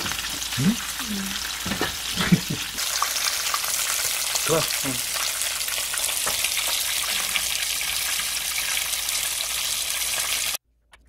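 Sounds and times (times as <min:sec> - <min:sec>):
food deep-frying in oil: 0:00.0 - 0:10.6.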